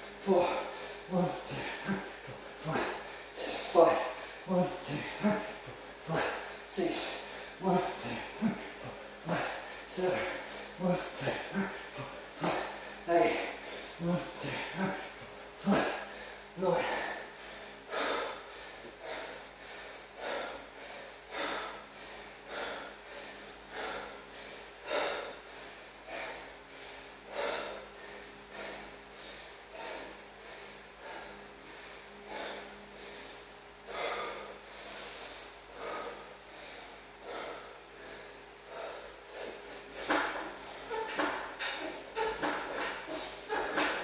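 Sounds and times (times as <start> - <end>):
man breathing hard: 0.0 - 44.0.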